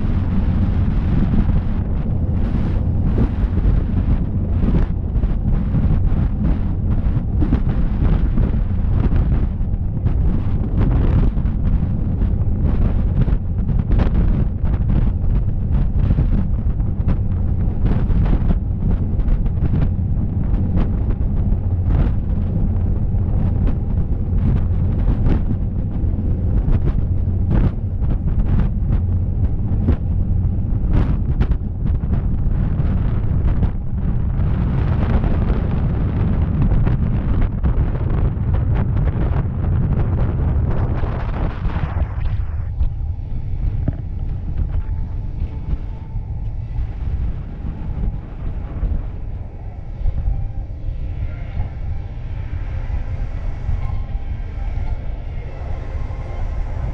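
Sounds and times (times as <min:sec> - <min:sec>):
boat engine rumble: 0:00.0 - 0:56.9
wind buffeting microphone: 0:00.0 - 0:56.9.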